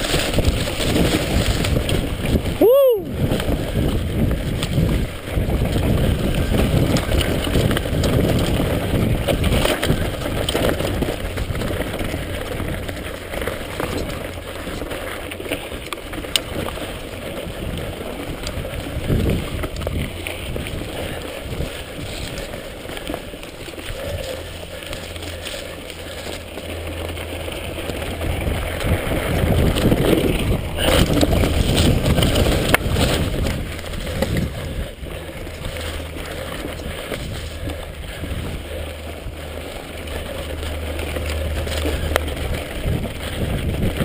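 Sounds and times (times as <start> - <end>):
bike knocks and rattles: 0.0 - 26.7, 27.3 - 38.8
tyre and wind noise: 0.0 - 44.0.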